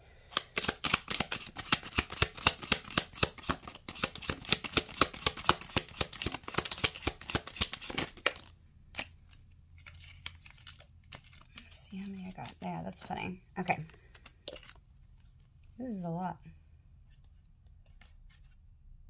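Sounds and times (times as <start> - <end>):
cards being shuffled: 0.2 - 13.2, 13.8 - 15.8, 17.0 - 18.7.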